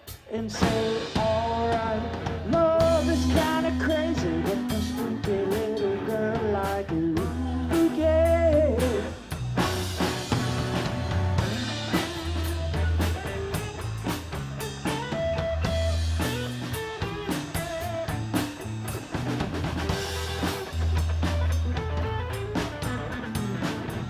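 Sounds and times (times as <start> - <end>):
drum kit: 0.0 - 24.0
guitar: 0.0 - 24.0.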